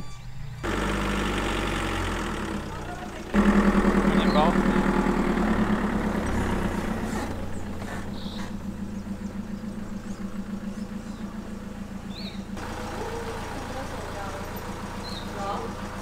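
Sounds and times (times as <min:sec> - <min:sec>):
van engine running: 0:00.0 - 0:16.0.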